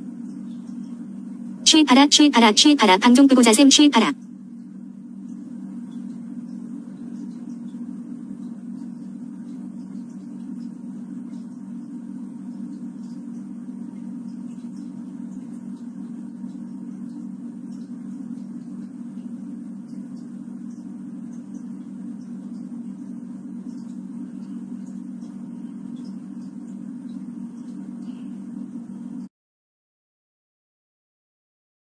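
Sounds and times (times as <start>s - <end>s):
steady low hum: 0.0s - 29.3s.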